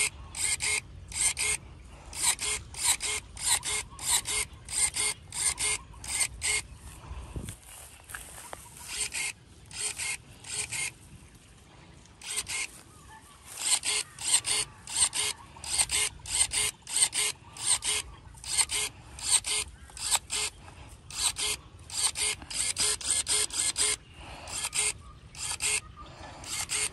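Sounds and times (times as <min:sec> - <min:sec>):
electric pruning shears whirring: 0:00.0 - 0:06.8, 0:08.2 - 0:11.1, 0:12.2 - 0:12.8, 0:13.5 - 0:26.9.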